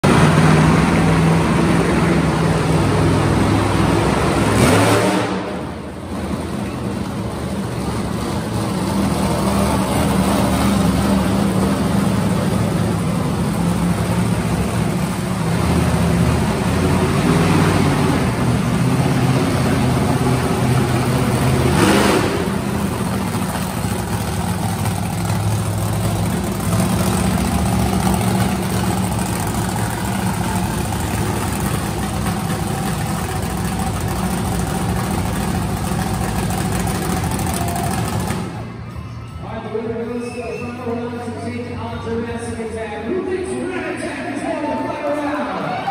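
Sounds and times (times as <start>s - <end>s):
truck engines idling and revving: 0.0s - 45.9s.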